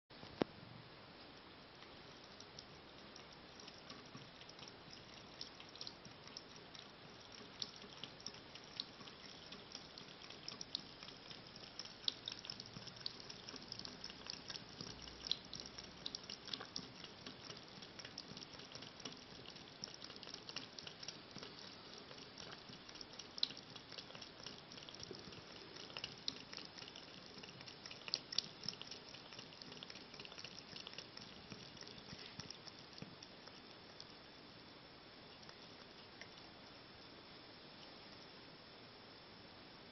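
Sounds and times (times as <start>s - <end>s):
cat lapping water: 1.8s - 34.2s, 35.2s - 37.0s
tap water trickling: 1.8s - 34.2s.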